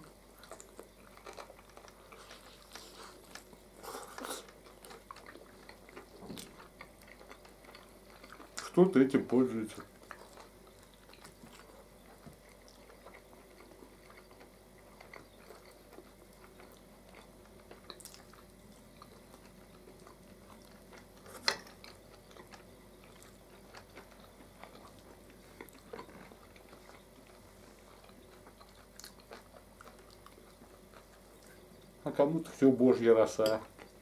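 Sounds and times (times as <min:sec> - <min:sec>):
soft chewing: 0:00.0 - 0:34.0.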